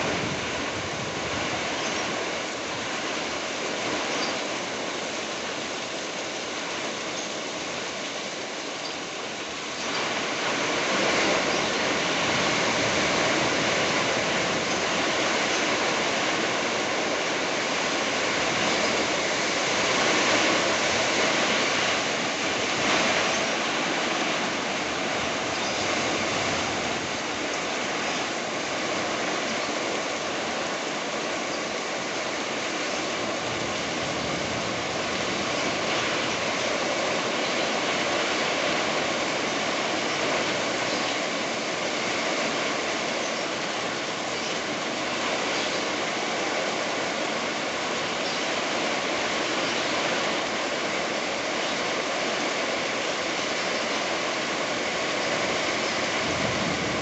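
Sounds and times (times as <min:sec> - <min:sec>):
heavy rain in strong wind: 0:00.0 - 0:57.0.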